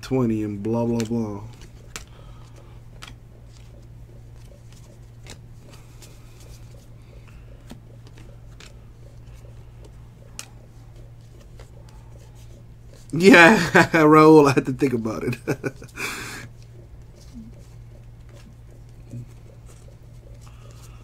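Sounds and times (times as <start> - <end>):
steady low hum: 0.0 - 21.0
cards clicking and rustling: 0.3 - 13.3, 15.7 - 21.0.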